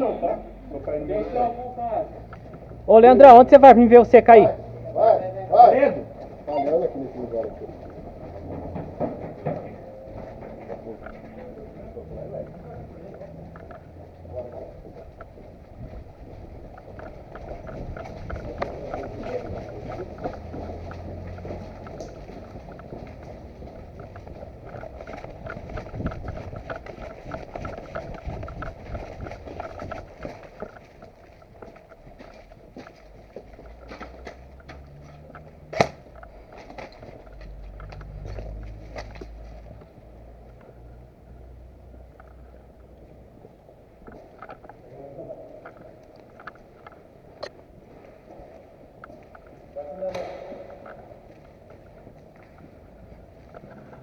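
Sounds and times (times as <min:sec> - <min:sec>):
steady rustling: 0:00.7 - 0:54.0
small scattered clicks: 0:09.4 - 0:54.0.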